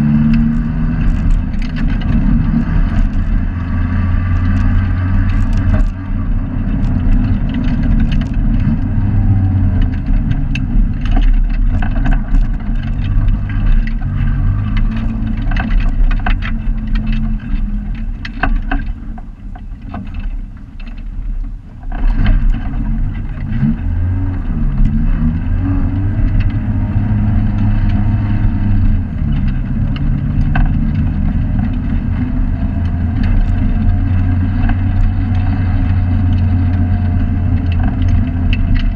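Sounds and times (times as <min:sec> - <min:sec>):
race car engine from inside cabin: 0:00.0 - 0:38.9
road noise: 0:00.0 - 0:38.9
knocks and rattles: 0:00.3 - 0:21.2, 0:21.8 - 0:38.9.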